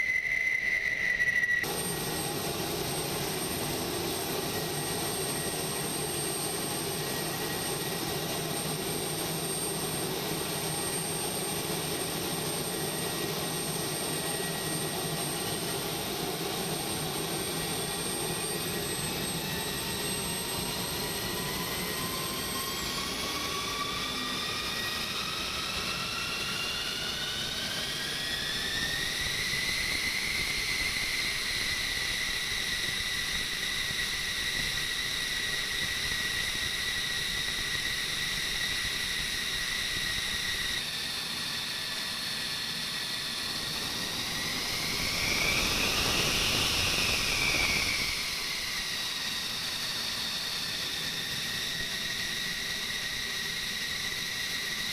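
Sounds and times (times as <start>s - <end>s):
jet engine whining: 0.0s - 54.9s.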